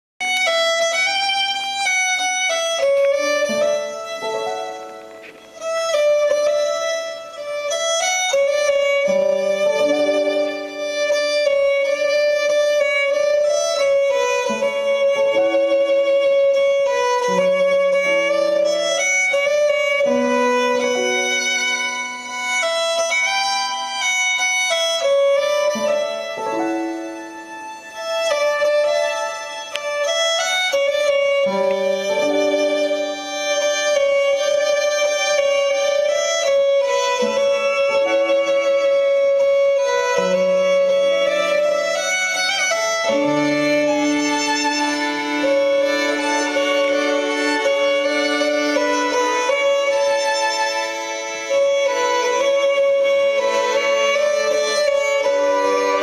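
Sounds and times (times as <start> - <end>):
fiddle music: 0.2 - 56.0.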